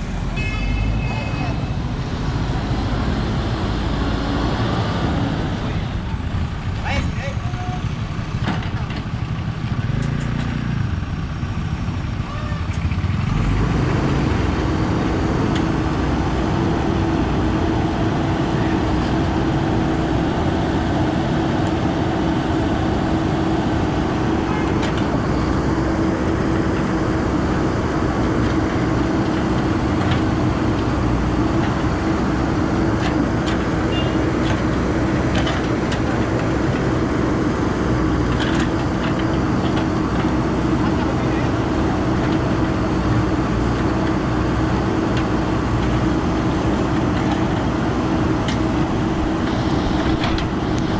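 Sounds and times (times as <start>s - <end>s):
vehicle engine and road noise: 0.0s - 50.9s.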